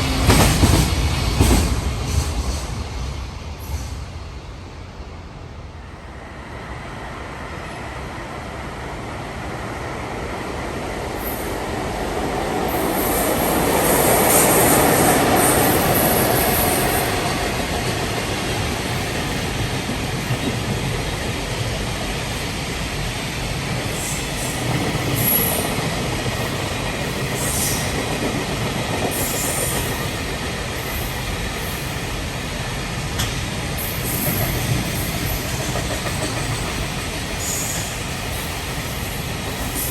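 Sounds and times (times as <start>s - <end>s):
freight train passing: 0.0s - 39.9s.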